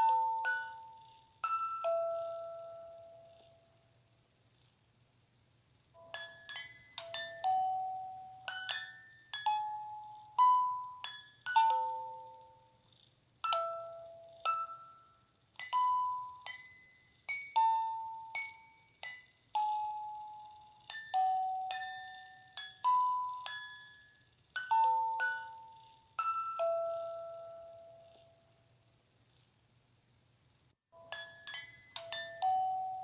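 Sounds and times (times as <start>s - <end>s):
bell-like lullaby melody: 0.0s - 3.8s, 6.0s - 28.5s, 31.0s - 33.0s.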